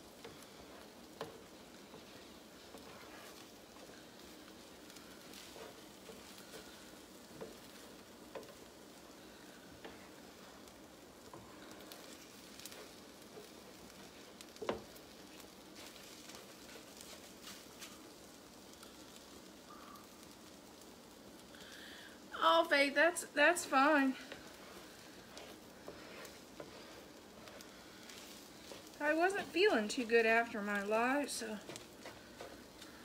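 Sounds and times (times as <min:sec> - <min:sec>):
spatula stirring and scraping: 0:00.0 - 0:21.8, 0:23.5 - 0:33.0
eggs sizzling in a pan: 0:00.0 - 0:33.0.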